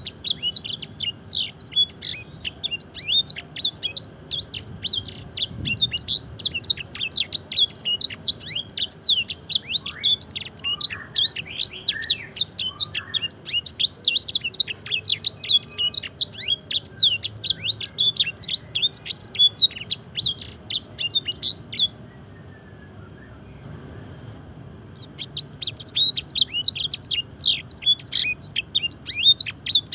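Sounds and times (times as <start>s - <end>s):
canary singing: 0.0s - 23.7s, 24.9s - 29.9s.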